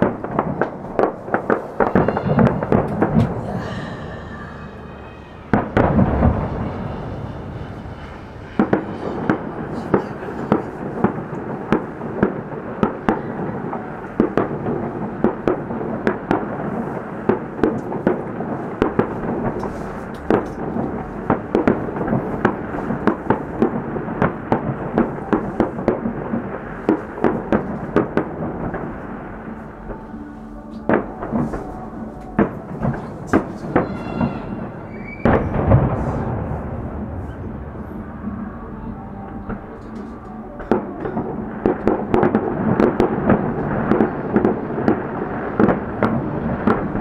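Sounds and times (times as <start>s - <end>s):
continuous rumble: 0.0s - 47.0s
distant fireworks bangs and crackles: 0.0s - 47.0s.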